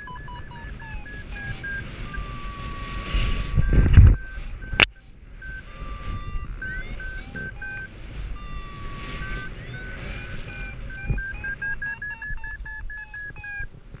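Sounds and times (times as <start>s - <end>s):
variometer beeping: 0.0s - 14.0s
wind rush on microphone: 0.0s - 14.0s.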